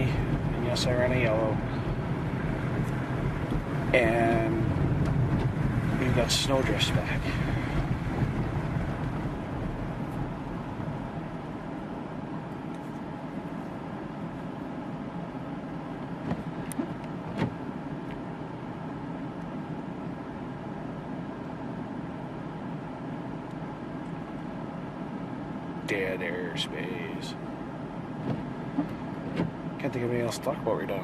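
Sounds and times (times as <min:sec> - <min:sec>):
car road and engine noise: 0:00.0 - 0:31.0.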